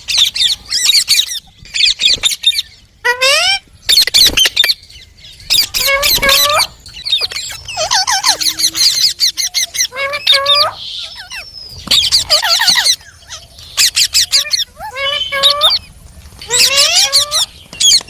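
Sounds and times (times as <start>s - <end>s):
parrot squawking: 0.0s - 4.7s, 5.5s - 18.0s.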